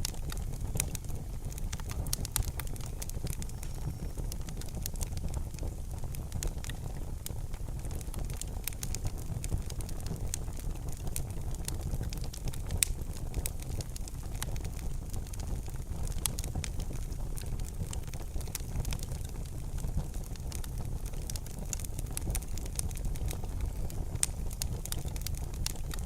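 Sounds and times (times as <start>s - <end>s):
low rumble of fire flames: 0.0s - 26.0s
wood fire crackling and popping: 0.0s - 26.0s.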